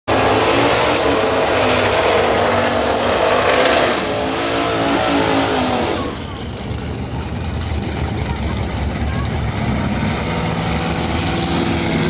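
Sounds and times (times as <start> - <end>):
drag car engine at full throttle: 0.1 - 12.0.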